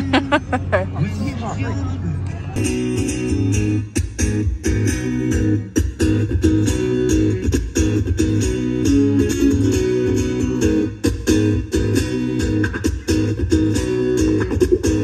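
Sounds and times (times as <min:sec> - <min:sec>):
plucked guitar music with beat: 0:02.6 - 0:15.0.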